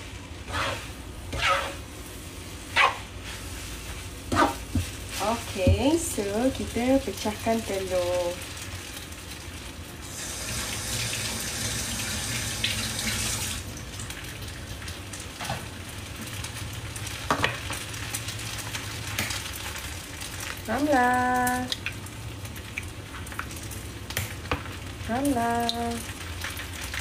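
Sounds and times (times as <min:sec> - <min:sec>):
noodles sizzling in a wok: 0:00.0 - 0:27.0.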